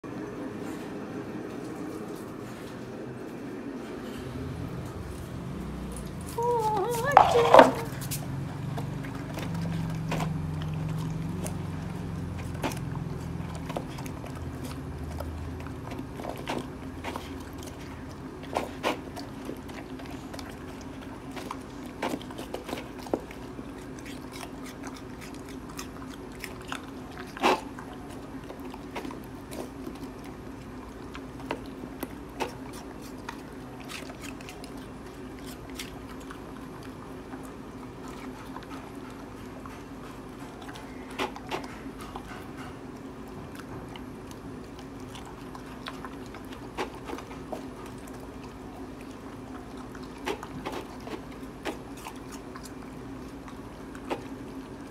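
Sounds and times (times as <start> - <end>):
steady low hum: 0.0 - 54.9
dog crunching and chewing: 1.4 - 54.9.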